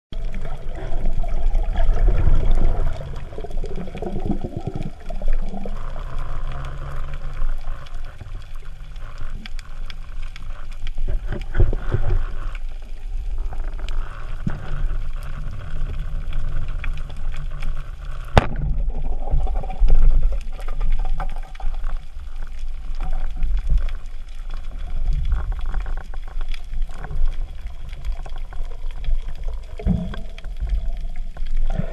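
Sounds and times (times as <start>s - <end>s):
underwater water rushing: 0.1s - 31.9s.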